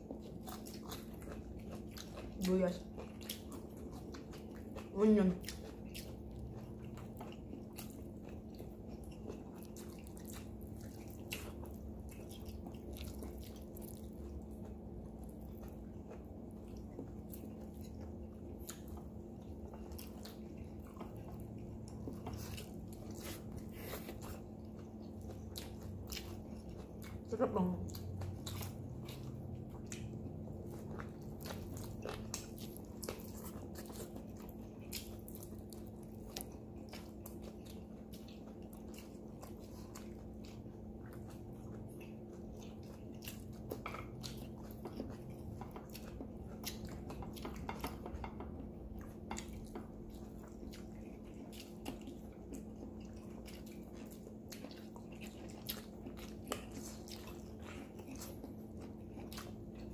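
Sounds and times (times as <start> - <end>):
chewing and lip-smacking: 0.0 - 59.9.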